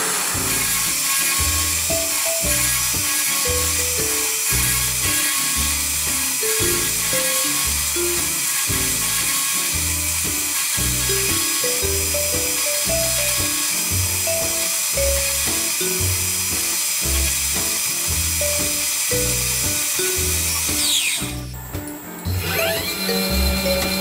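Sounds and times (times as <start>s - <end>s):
milling machine spindle whining: 0.0s - 21.5s, 22.3s - 24.0s
end mill cutting cast iron: 0.0s - 24.0s.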